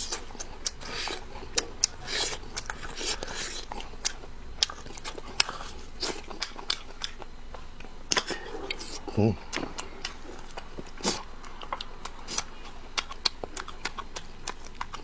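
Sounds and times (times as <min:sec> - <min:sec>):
person biting and chewing food: 0:00.0 - 0:15.0.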